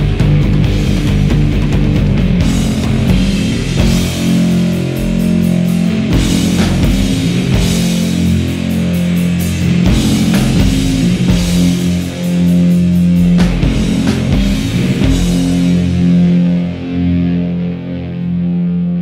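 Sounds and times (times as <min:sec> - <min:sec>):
rock music: 0:00.0 - 0:19.0.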